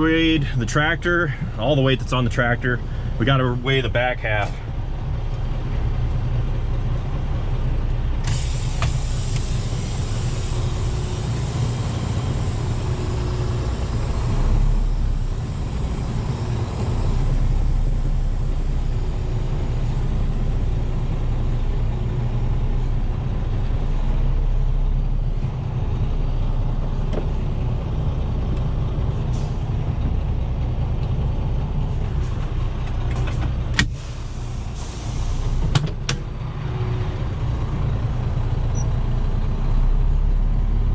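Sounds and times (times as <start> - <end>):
diesel truck engine rumbling: 0.0 - 40.9.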